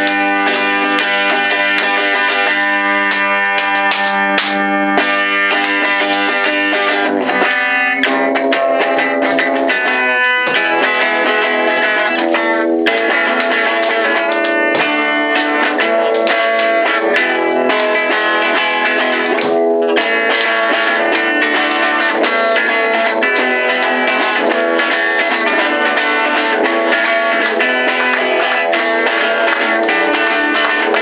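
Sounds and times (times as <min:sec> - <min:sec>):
guitar chords strummed: 0:00.0 - 0:31.0.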